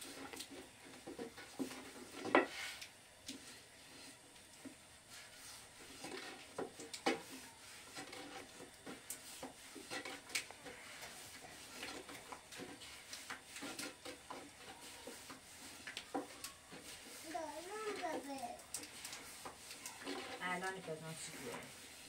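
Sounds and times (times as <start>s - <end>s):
rolling pin rolling dough: 0.0s - 22.0s.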